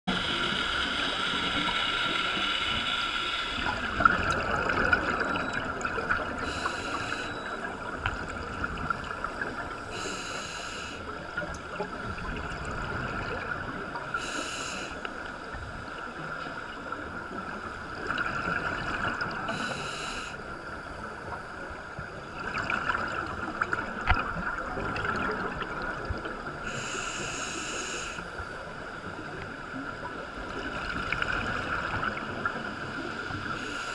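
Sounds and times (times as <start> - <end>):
exhaled bubbles underwater: 0.1 - 14.4, 15.1 - 27.2, 28.0 - 33.9
muffled underwater hiss: 0.1 - 33.9.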